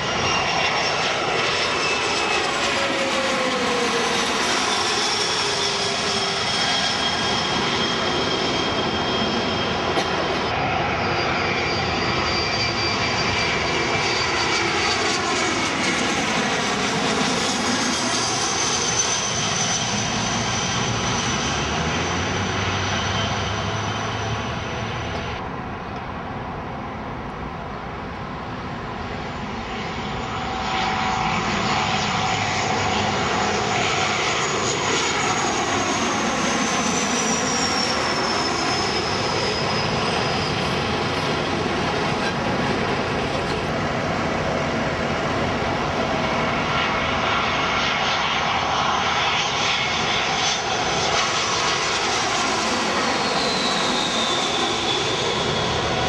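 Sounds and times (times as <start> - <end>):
airliner engines droning overhead: 0.0 - 56.0.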